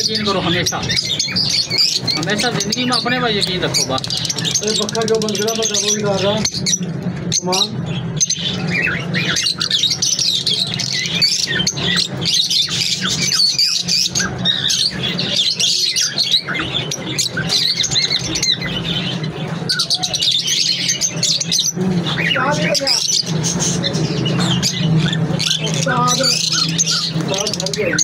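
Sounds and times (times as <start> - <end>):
lovebirds chirping and squawking: 0.0 - 28.0.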